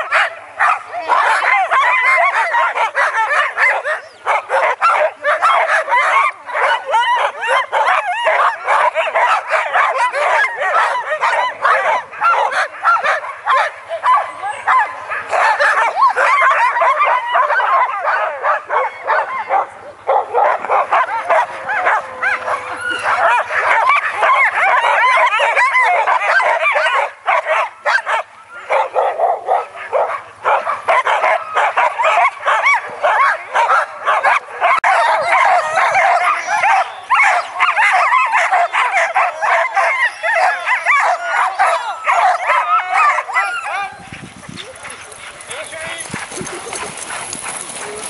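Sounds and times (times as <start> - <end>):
sled dogs yipping and howling: 0.0 - 48.0.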